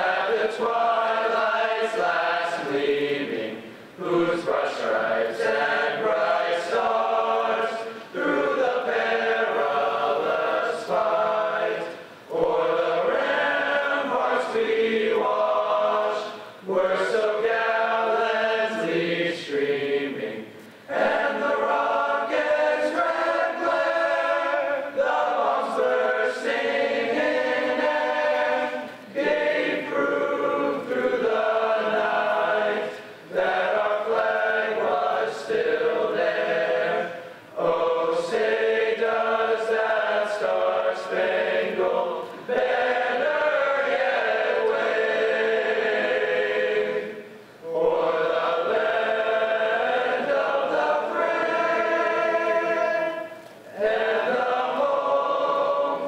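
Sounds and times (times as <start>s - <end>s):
boys choir singing a cappella: 0.0s - 56.0s.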